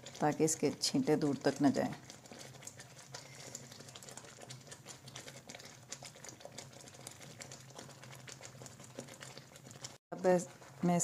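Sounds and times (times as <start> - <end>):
thick halwa bubbling and popping: 0.0 - 11.0.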